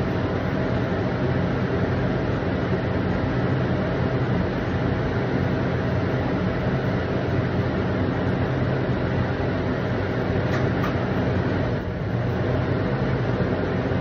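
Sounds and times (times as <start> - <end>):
cooling fans whooshing hum: 0.0 - 14.0.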